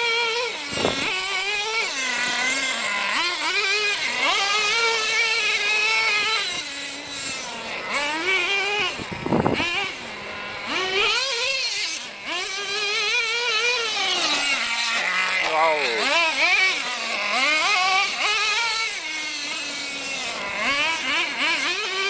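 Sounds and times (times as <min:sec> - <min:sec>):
rc nitro engine whine revving: 0:00.0 - 0:22.0.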